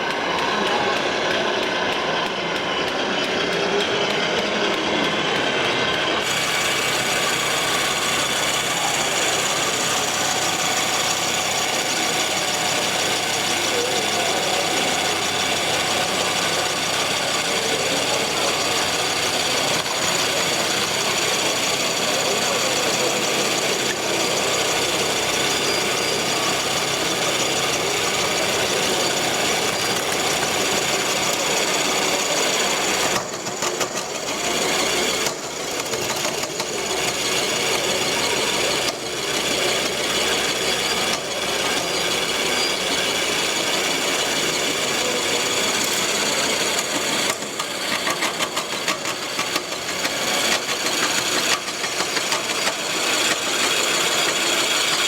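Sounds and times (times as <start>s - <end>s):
model truck diesel engine: 0.0s - 55.0s.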